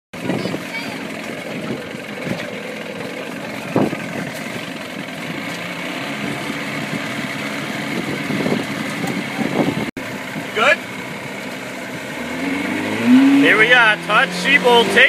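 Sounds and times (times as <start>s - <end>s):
boat engine running: 0.1s - 15.0s.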